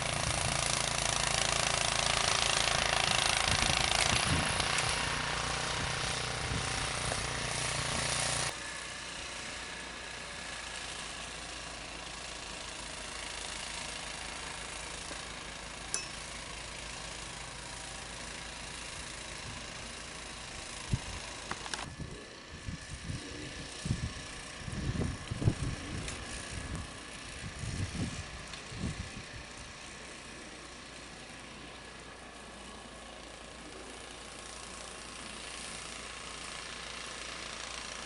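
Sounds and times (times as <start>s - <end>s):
small gasoline engine running: 0.0s - 38.0s.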